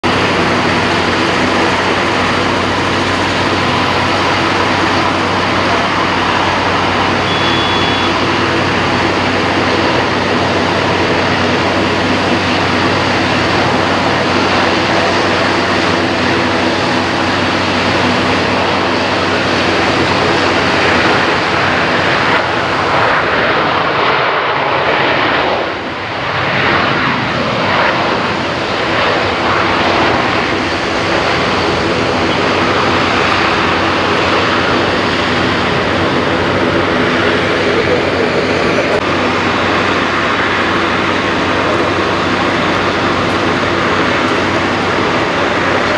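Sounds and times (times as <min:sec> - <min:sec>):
jet engines rushing: 0:00.0 - 0:45.9.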